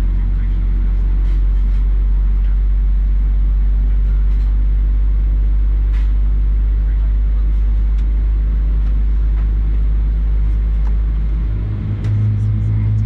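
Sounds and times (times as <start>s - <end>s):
jet engine cabin rumble: 0.0s - 13.0s.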